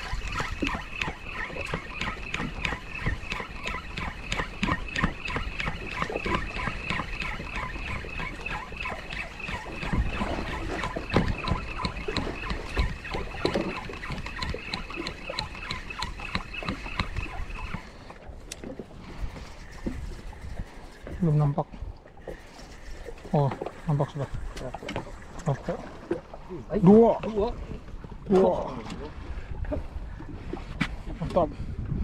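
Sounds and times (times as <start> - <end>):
fishing reel ticking: 0.0 - 25.6
water slapping against boat hull: 0.0 - 31.4.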